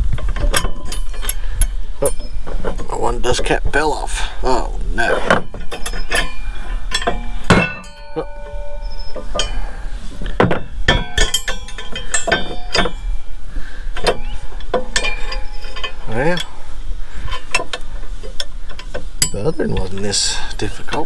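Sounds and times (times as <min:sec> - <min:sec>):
metal parts clinking and knocking: 0:00.1 - 0:04.1, 0:05.0 - 0:21.0.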